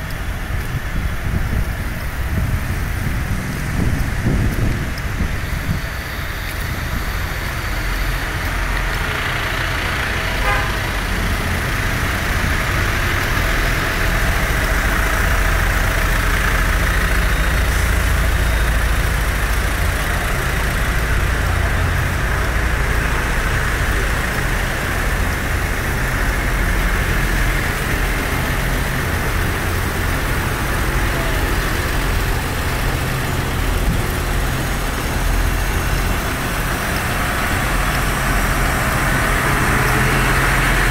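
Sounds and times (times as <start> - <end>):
tractor diesel engines rumbling: 0.0 - 40.9.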